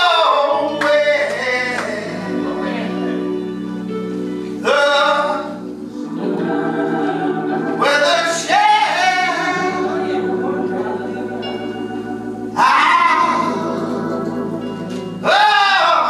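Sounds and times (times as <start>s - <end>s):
gospel singing: 0.0s - 16.0s
held keyboard chords: 0.0s - 16.0s.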